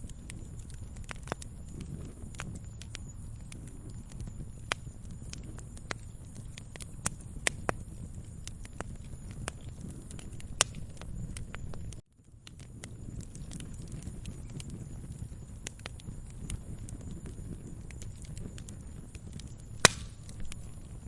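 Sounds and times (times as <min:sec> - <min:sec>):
fire pops and snaps: 0:00.0 - 0:21.0
wood fire crackling: 0:00.0 - 0:21.0.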